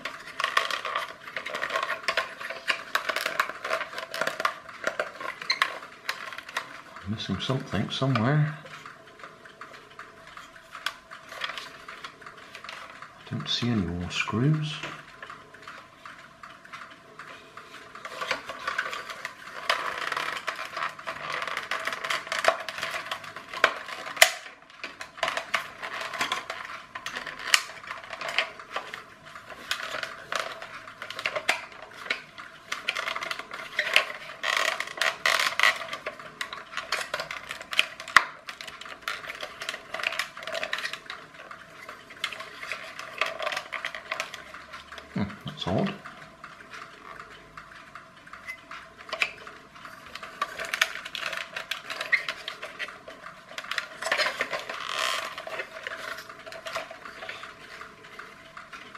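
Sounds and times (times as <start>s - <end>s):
plastic toy clicks and scrapes: 0.0s - 58.9s.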